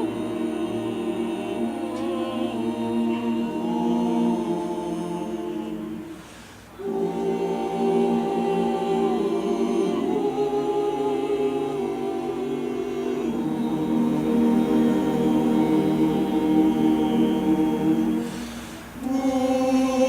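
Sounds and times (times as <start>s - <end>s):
choir singing held chords: 0.0s - 20.0s.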